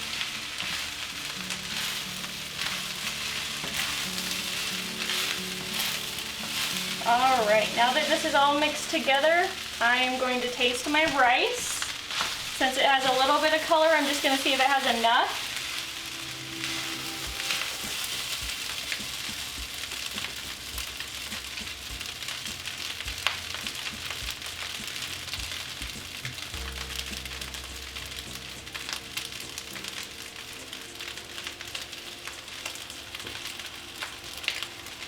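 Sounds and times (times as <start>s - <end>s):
rice sizzling in a pan: 0.0s - 35.0s.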